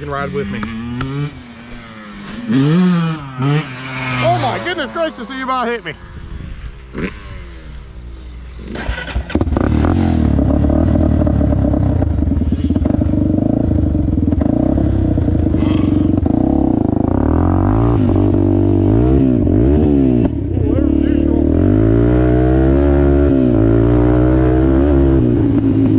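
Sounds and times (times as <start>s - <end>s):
off-road vehicle engine running: 0.0s - 25.9s.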